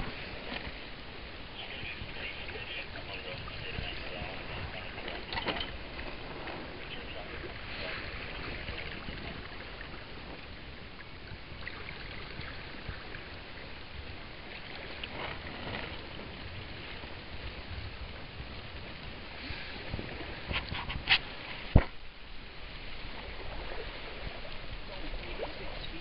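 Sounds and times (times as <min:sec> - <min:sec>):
water rushing along boat hull: 0:00.0 - 0:26.0.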